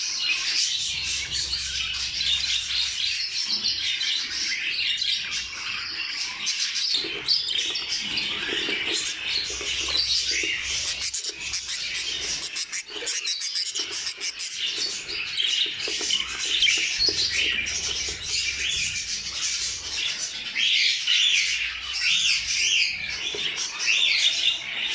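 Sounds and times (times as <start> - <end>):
budgerigars chirping: 0.0 - 24.9.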